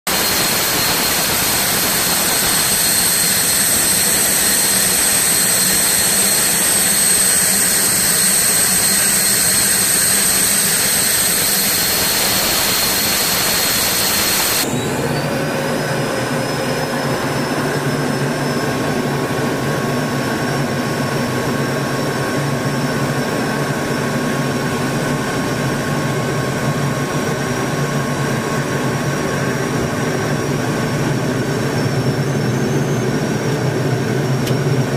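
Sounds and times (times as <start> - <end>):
jet engine whine: 0.0 - 34.9
high engine tone: 0.1 - 34.9.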